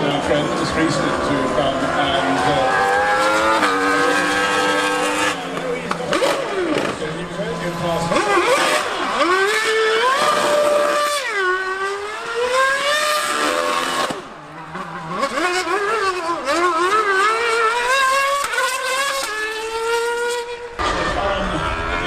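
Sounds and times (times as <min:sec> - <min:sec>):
racing engine revving: 0:00.0 - 0:22.0.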